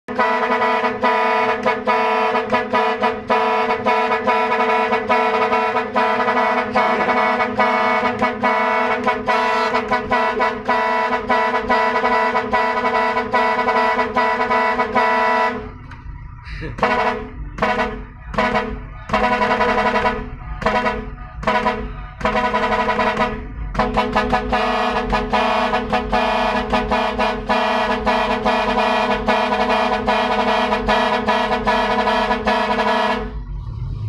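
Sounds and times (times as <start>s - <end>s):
truck horn chord in rhythmic bursts: 0.1s - 16.0s, 16.6s - 33.5s.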